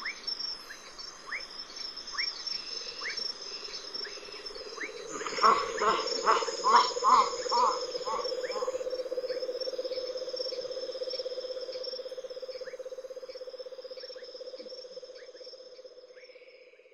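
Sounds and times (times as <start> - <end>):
high insect whine: 0.0 - 16.9.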